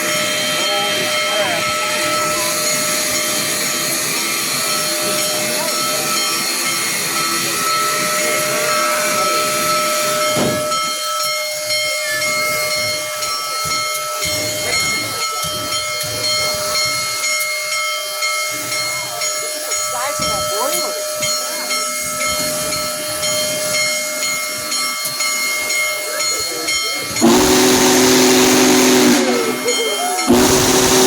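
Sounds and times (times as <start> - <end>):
steam locomotive hissing steam: 0.0 - 31.0.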